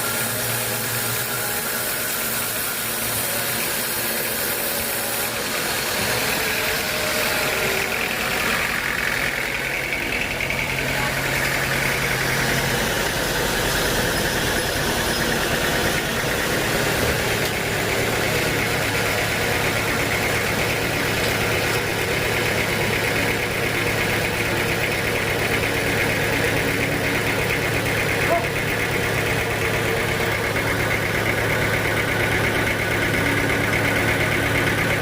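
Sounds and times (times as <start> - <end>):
low engine hum: 0.0 - 35.0
machinery whine: 0.0 - 35.0.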